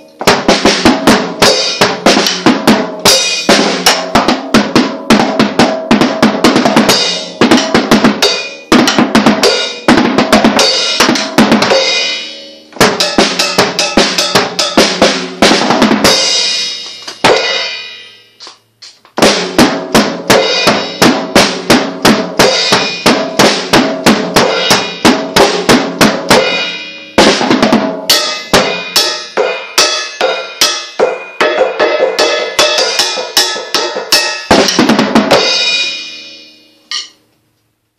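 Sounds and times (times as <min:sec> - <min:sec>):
drum solo: 0:00.0 - 0:18.5, 0:19.2 - 0:37.2.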